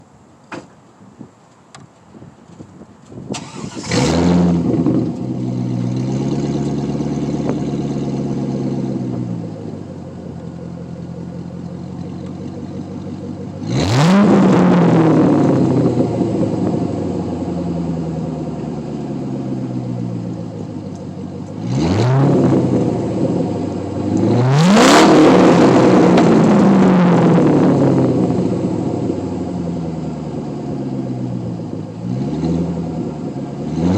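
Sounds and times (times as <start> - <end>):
car engine starting and revving: 3.3 - 33.9.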